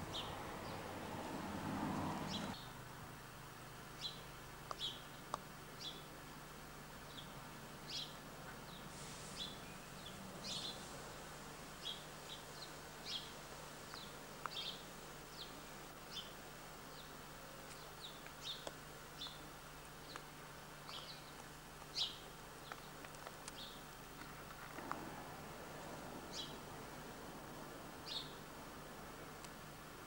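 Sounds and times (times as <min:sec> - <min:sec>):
small birds chirping faintly: 0:00.0 - 0:30.0
steady low hum: 0:00.0 - 0:30.0.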